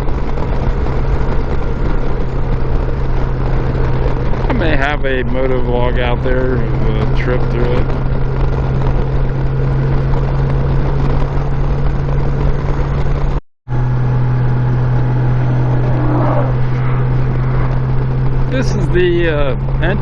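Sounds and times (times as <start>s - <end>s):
motorcycle engine droning: 0.0s - 20.0s
road noise: 0.0s - 20.0s
rushing wind: 0.0s - 20.0s.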